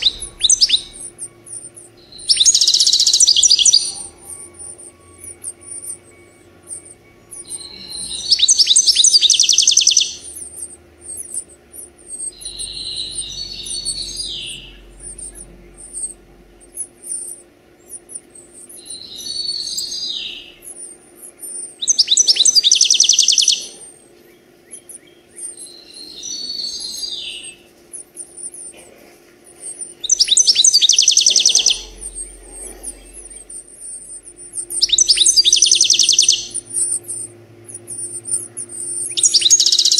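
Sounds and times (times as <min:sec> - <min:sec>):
songbird trilling song: 0:00.0 - 0:28.8, 0:29.5 - 0:39.9
thin high-pitched chirping: 0:00.0 - 0:39.9.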